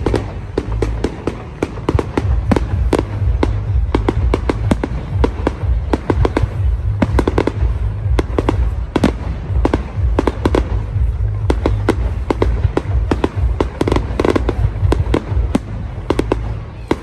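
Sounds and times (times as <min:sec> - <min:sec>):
fireworks bangs and cracks: 0:00.0 - 0:17.0
low rumble: 0:00.0 - 0:17.0.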